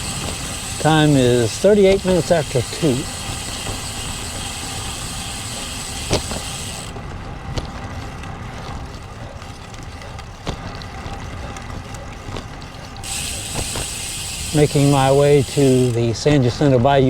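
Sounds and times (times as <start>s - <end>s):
bicycle tyre noise: 0.0s - 17.0s.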